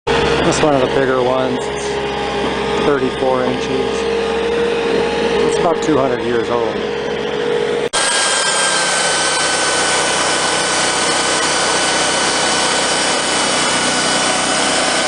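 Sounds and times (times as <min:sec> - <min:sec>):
band sawmill cutting log: 0:00.1 - 0:15.0.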